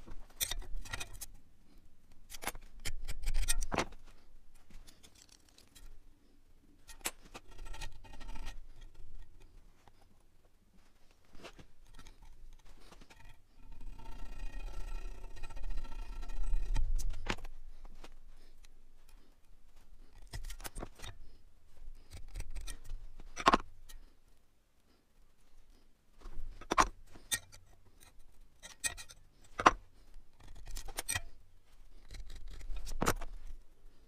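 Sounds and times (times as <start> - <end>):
scratchy scrapes on steel: 0.0 - 1.4, 2.2 - 6.0, 6.8 - 10.1, 11.3 - 19.3, 20.0 - 24.1, 26.4 - 29.8, 30.4 - 33.6.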